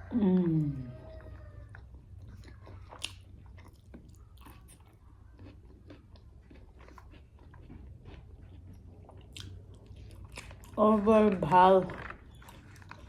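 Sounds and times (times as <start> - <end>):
chewing and biting with crunches: 0.8 - 13.0.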